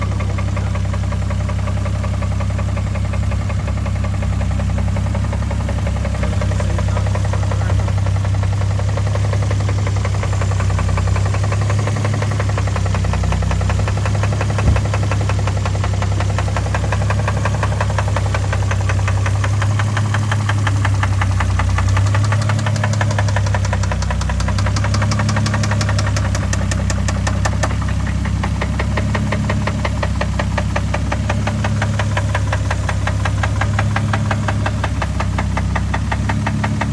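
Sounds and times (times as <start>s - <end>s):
car engine knocking: 0.0s - 36.9s.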